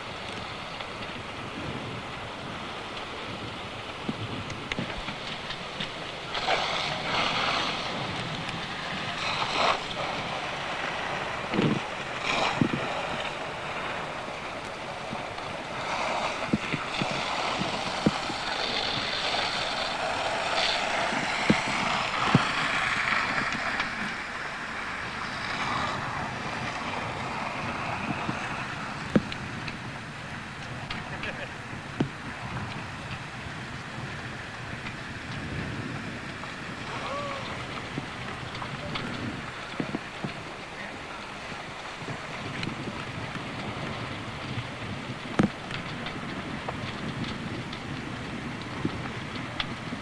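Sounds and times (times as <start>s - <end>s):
fire cracks and pops: 0.0s - 50.0s
fire rushing: 0.0s - 50.0s.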